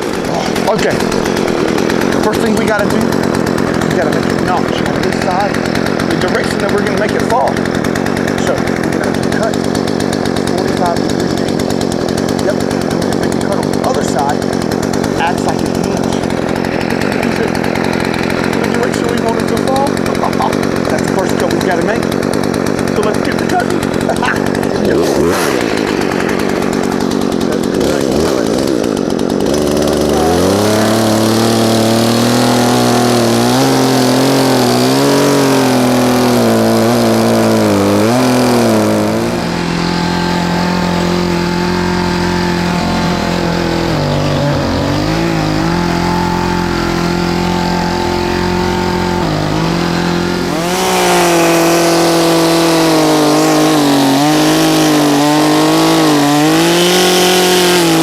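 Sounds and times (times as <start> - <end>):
chainsaw cutting into tree: 0.0 - 58.0.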